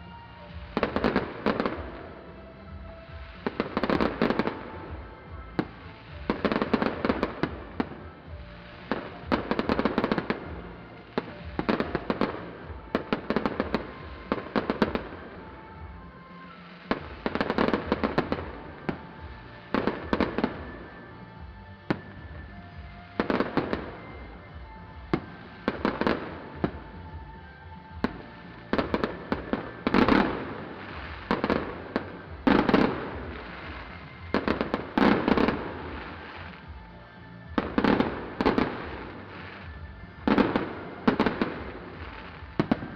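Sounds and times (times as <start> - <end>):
fireworks bangs and crackling: 0.0 - 42.9
music playing: 0.0 - 42.9.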